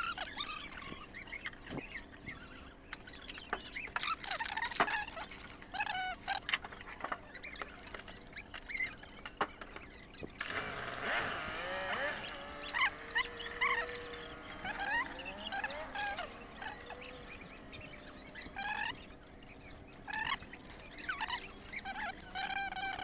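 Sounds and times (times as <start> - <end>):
small animals chirping and squeaking: 0.0 - 10.6, 11.6 - 23.0.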